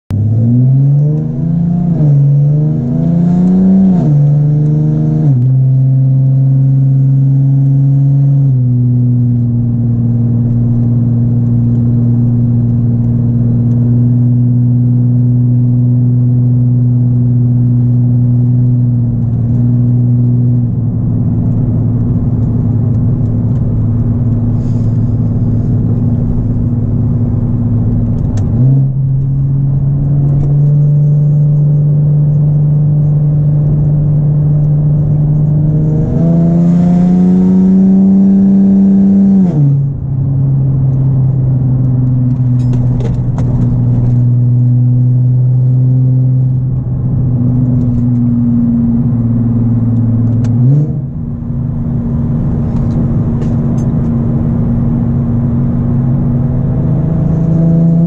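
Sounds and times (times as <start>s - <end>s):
car engine revving: 0.1s - 58.0s.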